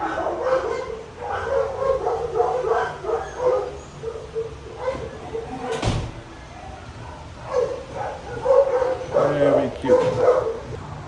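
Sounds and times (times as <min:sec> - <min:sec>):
dogs barking and yapping: 0:00.0 - 0:11.0.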